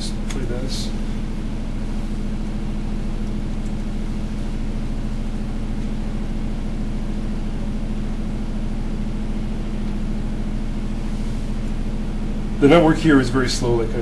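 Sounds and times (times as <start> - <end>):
room noise hum and hiss: 0.0 - 14.0.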